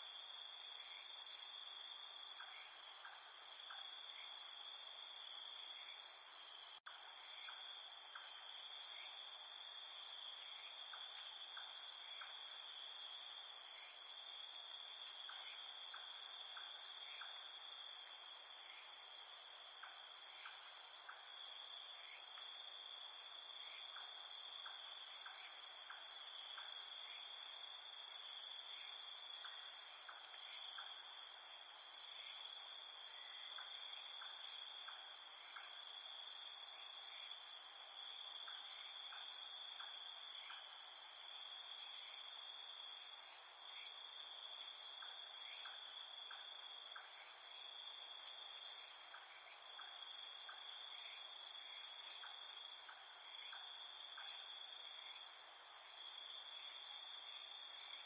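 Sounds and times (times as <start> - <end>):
low insect chirps: 0.0 - 58.0.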